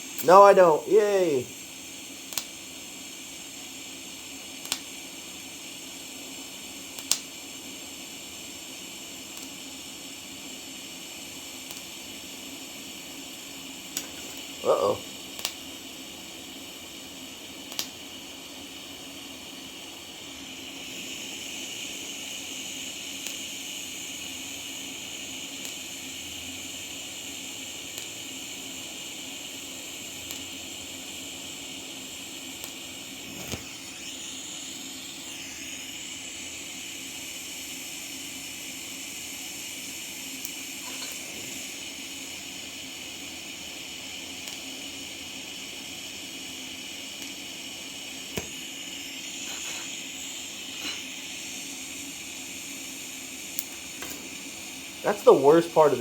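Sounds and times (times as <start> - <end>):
welder hissing: 0.0 - 56.0.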